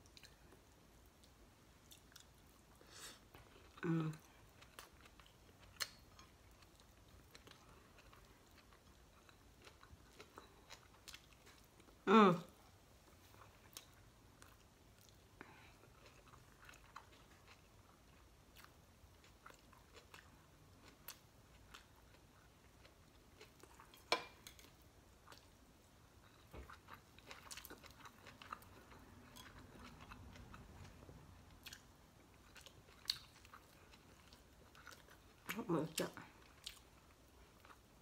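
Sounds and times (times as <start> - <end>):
chewing crispy fried fish: 0.0 - 12.0, 13.0 - 38.0.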